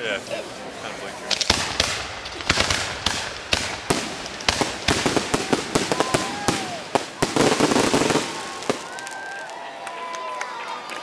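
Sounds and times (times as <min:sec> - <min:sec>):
fireworks bangs and crackles: 0:01.1 - 0:10.0.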